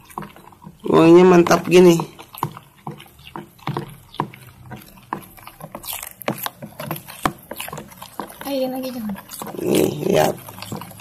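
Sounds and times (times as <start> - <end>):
spoon stirring batter in bowl: 0.0 - 11.0.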